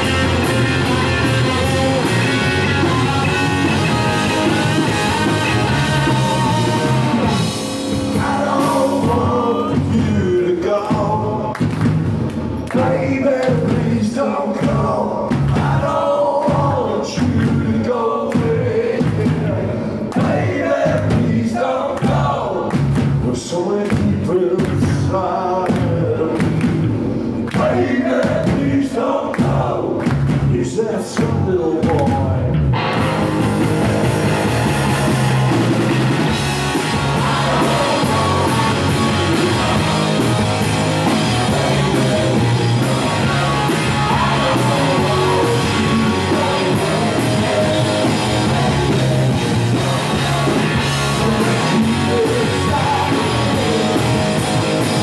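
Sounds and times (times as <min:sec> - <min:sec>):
man singing: 0:00.0 - 0:11.7, 0:12.7 - 0:22.6, 0:23.2 - 0:26.6, 0:27.5 - 0:32.6, 0:36.7 - 0:55.0
rock band playing: 0:00.0 - 0:30.6, 0:31.3 - 0:55.0.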